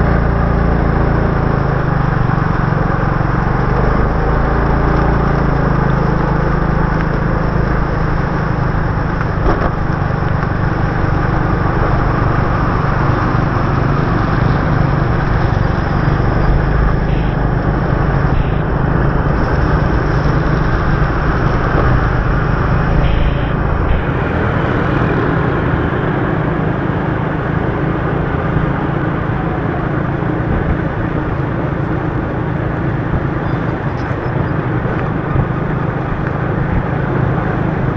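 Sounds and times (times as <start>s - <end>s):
motorbike engine cruising: 0.0s - 37.9s
tyres on wet road: 0.0s - 37.9s
wind noise: 0.0s - 37.9s.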